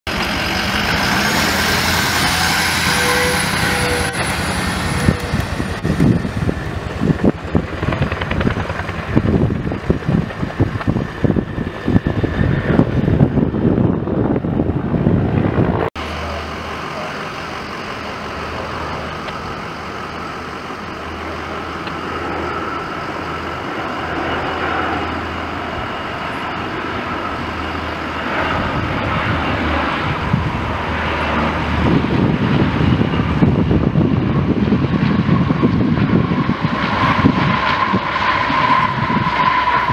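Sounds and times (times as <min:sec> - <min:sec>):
fire trucks driving past: 0:00.1 - 0:39.9
steady engine drone: 0:00.1 - 0:39.9.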